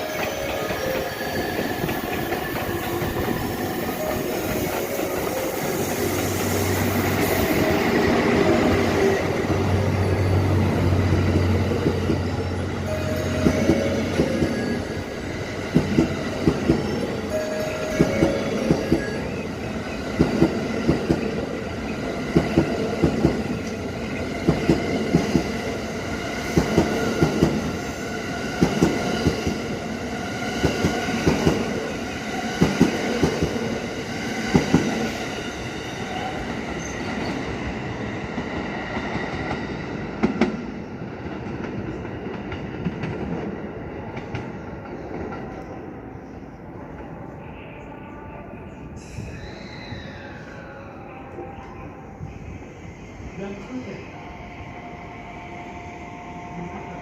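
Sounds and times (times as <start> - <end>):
train running hum: 0.0 - 57.0.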